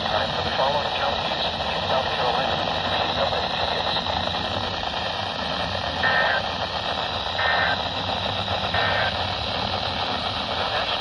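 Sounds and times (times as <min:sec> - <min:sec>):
radio static hiss: 0:00.0 - 0:11.0
two-tone data bursts: 0:00.0 - 0:11.0.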